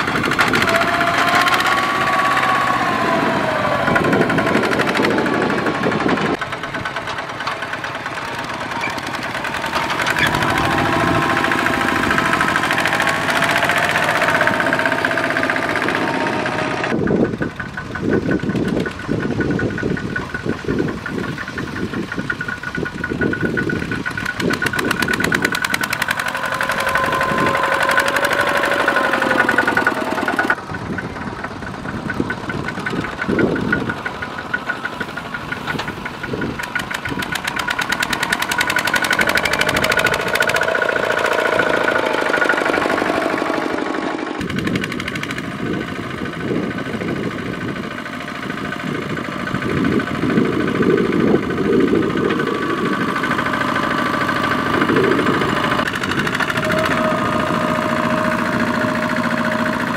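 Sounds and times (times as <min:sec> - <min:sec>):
diesel tractor engines knocking: 0:00.0 - 0:59.9.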